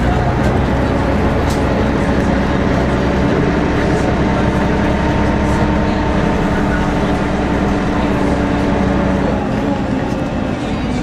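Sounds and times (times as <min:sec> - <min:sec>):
bus engine drone with whine: 0:00.0 - 0:11.0.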